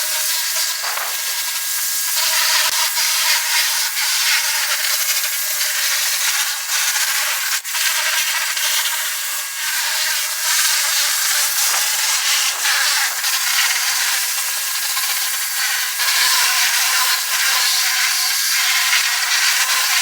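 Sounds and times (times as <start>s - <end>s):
power tool rasping on a surface: 0.0s - 20.0s.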